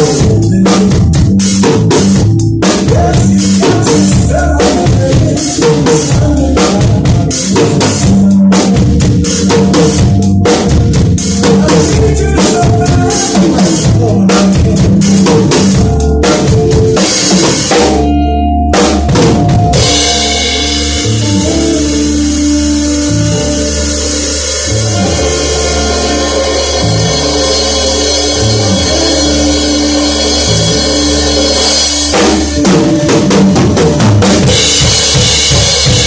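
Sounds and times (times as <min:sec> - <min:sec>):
backing track with bass line: 0:00.0 - 0:36.0
drum kit playing: 0:00.0 - 0:36.0.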